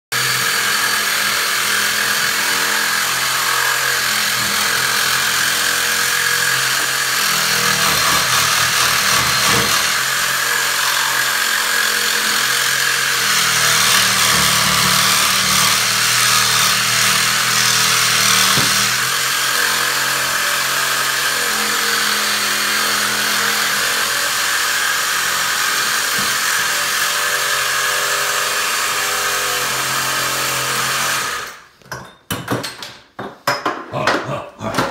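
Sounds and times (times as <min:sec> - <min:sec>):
cordless power tool running: 0:00.1 - 0:31.6.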